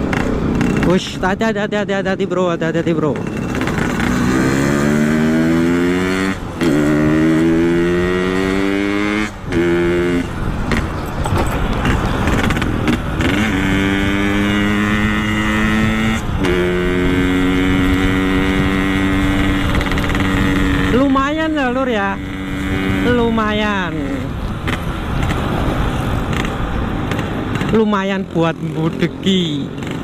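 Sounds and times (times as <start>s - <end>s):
two-stroke motorcycle engine accelerating: 0.0s - 30.0s.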